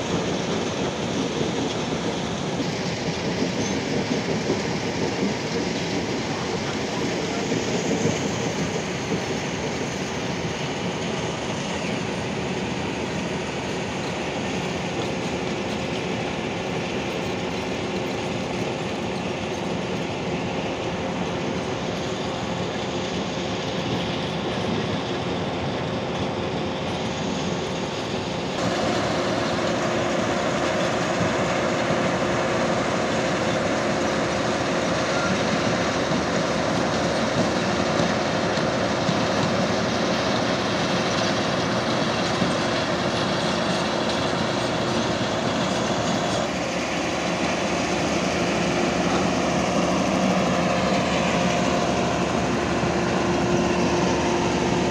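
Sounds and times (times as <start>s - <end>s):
excavator engine rumble: 0.0s - 54.9s.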